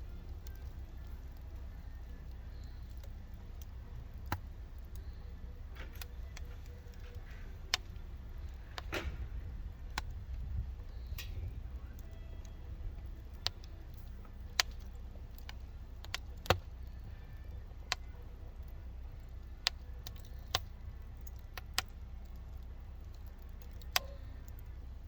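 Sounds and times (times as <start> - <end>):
low fire rumble: 0.0 - 25.0
wood fire pops: 0.0 - 25.0.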